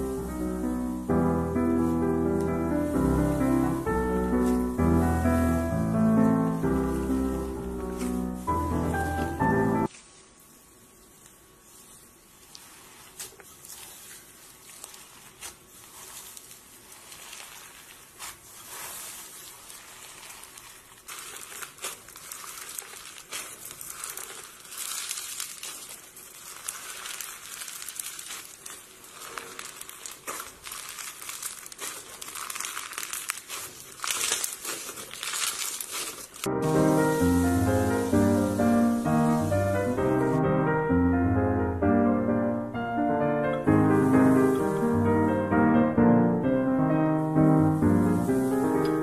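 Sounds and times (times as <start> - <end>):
beaded slime crackling: 0.0 - 40.4.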